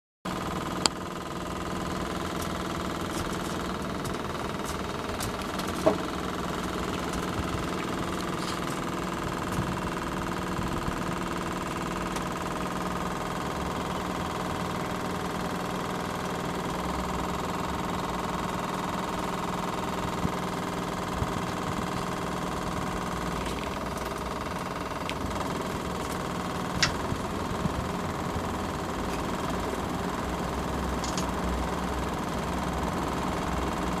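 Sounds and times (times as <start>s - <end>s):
air conditioner humming and rattling: 0.3s - 34.0s.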